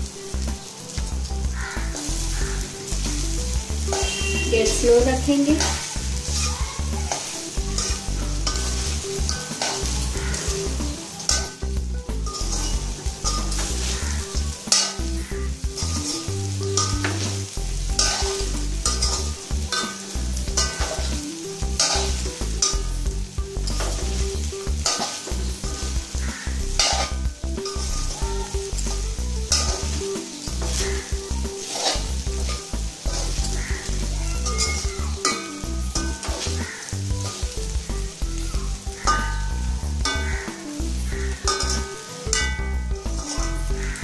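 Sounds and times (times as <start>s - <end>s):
frying sizzle: 0.0s - 44.0s
spatula scraping a pan: 0.6s - 37.8s, 38.4s - 44.0s.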